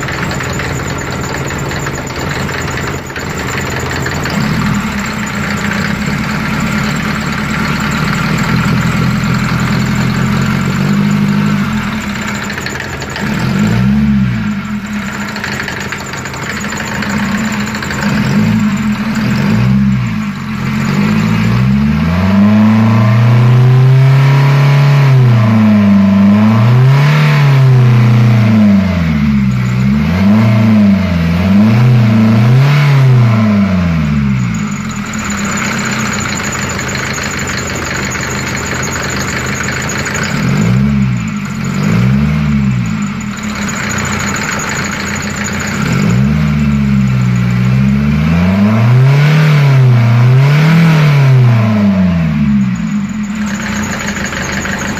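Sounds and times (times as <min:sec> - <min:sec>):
diesel engine idling with knock: 0:00.0 - 0:54.9
engine revving: 0:00.0 - 0:54.9.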